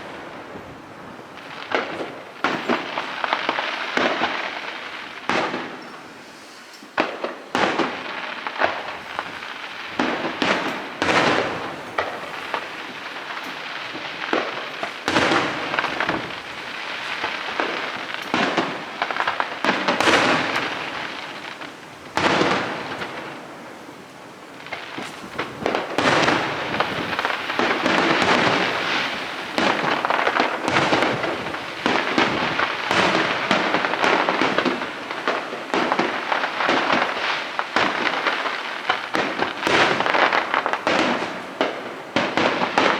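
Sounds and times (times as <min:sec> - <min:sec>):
fireworks bursting with bangs: 0:00.0 - 0:42.9
fireworks crackling: 0:00.0 - 0:42.9.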